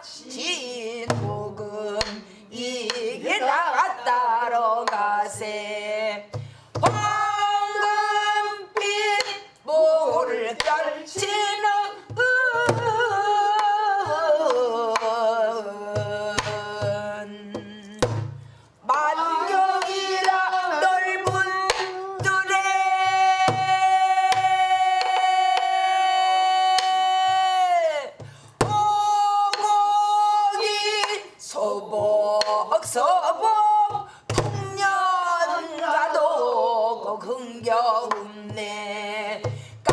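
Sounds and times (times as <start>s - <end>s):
woman singing with vibrato: 0.0s - 39.9s.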